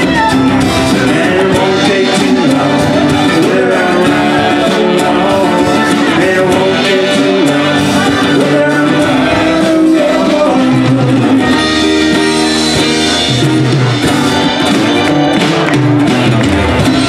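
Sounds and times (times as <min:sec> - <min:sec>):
drums: 0:00.0 - 0:17.0
electric bass: 0:00.0 - 0:17.0
keyboard: 0:00.0 - 0:17.0
strummed acoustic guitar: 0:00.0 - 0:17.0.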